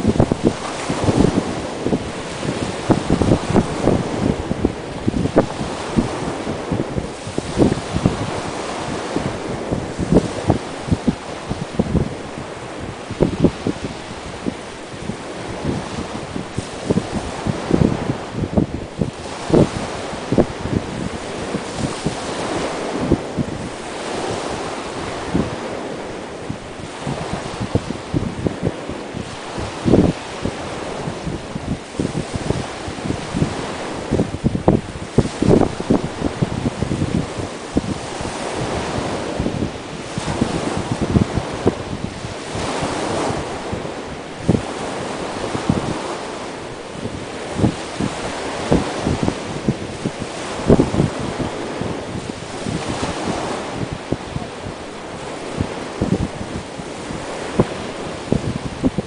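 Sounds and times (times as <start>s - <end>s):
waves breaking on a beach: 0.0s - 59.0s
wind buffeting the microphone: 0.0s - 59.0s.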